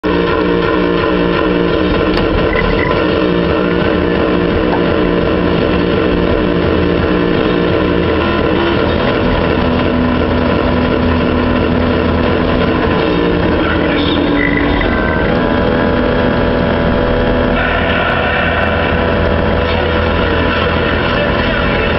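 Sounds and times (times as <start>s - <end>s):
excavator engine and hydraulic drone: 0.0s - 21.9s.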